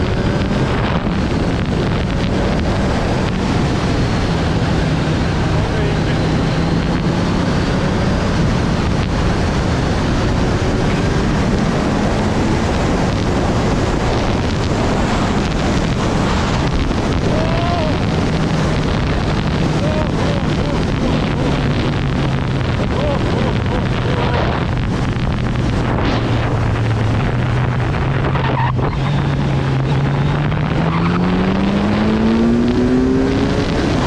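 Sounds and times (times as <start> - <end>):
motorcycle engine running: 0.0 - 34.0
wind buffeting microphone: 0.0 - 34.0.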